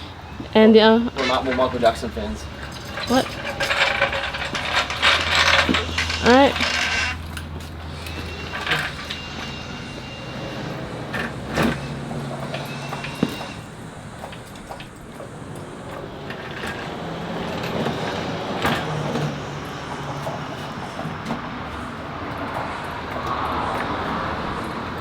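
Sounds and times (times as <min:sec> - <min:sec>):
sharp knocks and clanks: 0:00.4 - 0:24.7.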